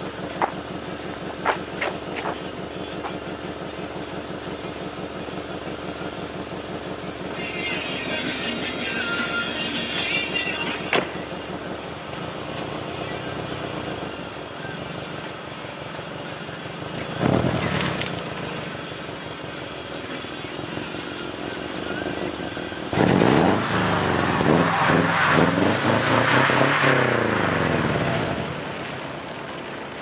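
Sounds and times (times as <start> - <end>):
car engine revving: 0.0 - 15.3, 16.1 - 29.2.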